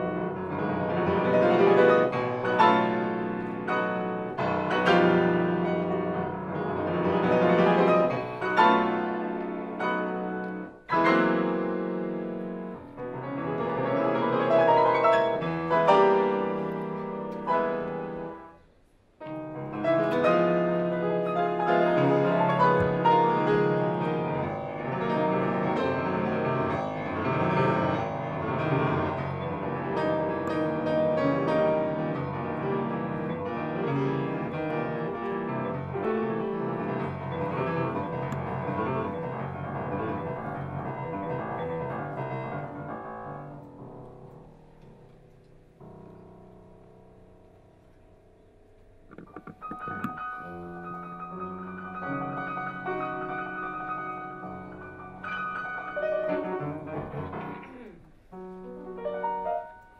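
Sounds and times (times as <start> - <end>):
solo piano playing: 0.0 - 18.6, 19.2 - 47.6, 49.0 - 59.9.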